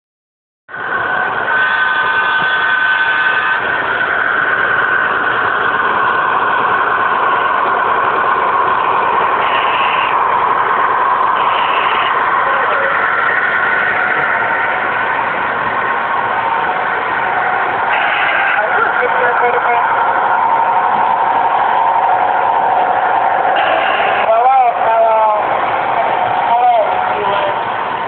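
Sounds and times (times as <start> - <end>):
model train wheels rumbling: 0.7 - 28.0
steady high hum: 0.7 - 28.0.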